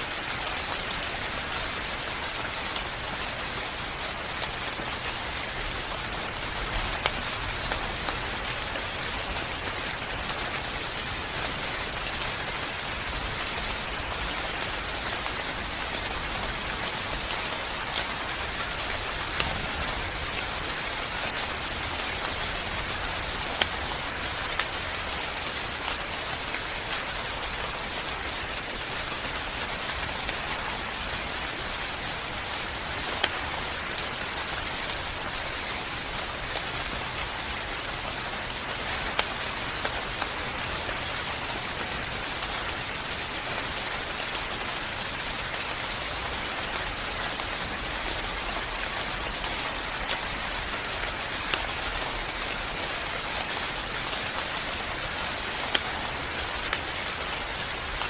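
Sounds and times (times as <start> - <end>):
sharp raindrops: 0.0 - 58.0
steady rain falling: 0.0 - 58.0.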